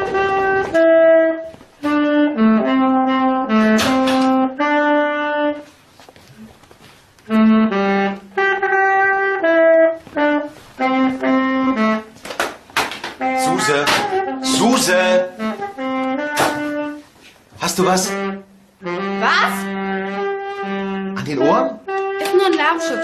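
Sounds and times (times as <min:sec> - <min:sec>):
saxophone held notes: 0:00.0 - 0:06.6, 0:07.2 - 0:12.2, 0:13.2 - 0:17.1, 0:17.8 - 0:23.0.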